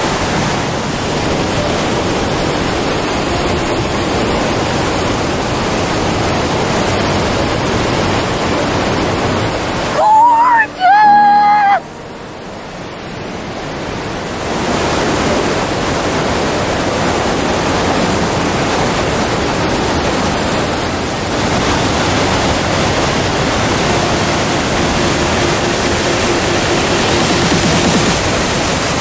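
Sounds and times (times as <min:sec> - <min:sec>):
creek rapids: 0:00.0 - 0:29.0
waterfall rushing: 0:00.0 - 0:29.0.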